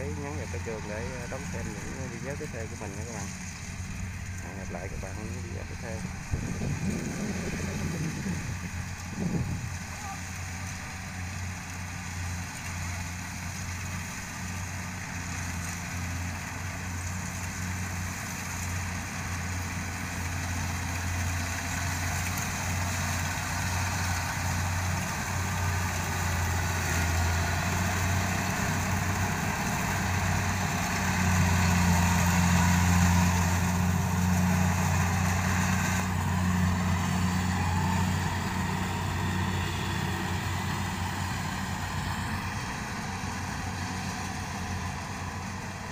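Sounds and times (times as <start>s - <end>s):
combine harvester engine hum: 0.0s - 45.9s.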